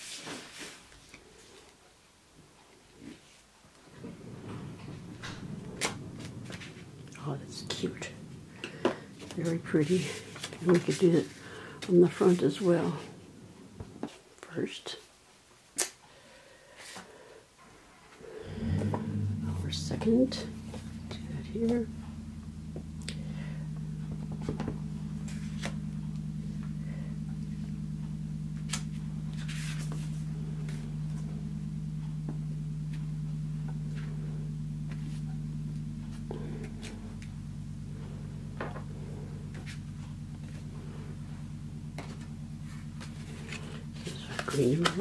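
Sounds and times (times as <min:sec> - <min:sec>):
low mechanical hum: 0:00.2 - 0:45.0.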